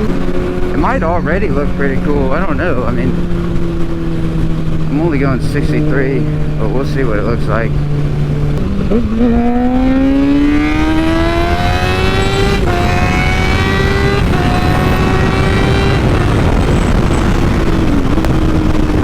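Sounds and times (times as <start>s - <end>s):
motorcycle engine accelerating: 0.0s - 19.0s
wind rushing over microphone: 0.0s - 19.0s.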